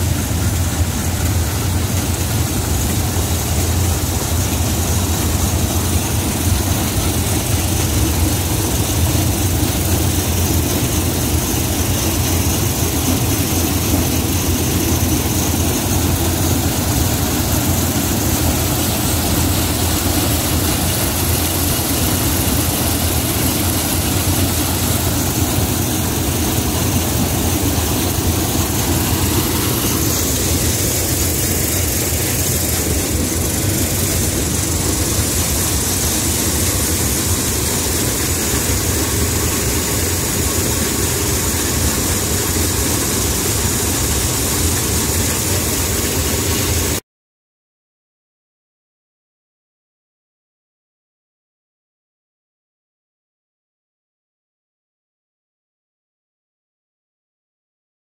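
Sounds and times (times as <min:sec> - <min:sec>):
corn sheller engine droning: 0:00.0 - 0:47.0.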